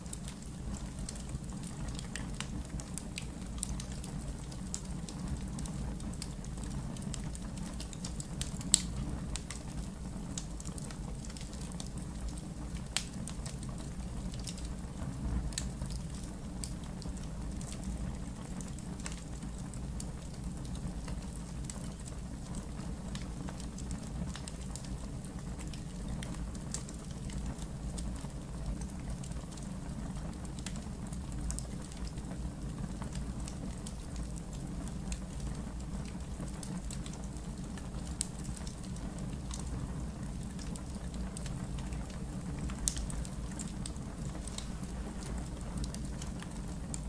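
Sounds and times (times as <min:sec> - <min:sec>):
fire crackling: 0:00.0 - 0:47.0
fire rumbling: 0:00.0 - 0:47.0.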